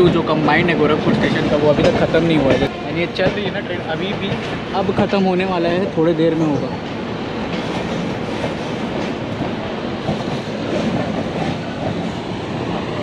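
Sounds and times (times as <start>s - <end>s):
train wheels rumbling and rattling: 0.0s - 13.0s.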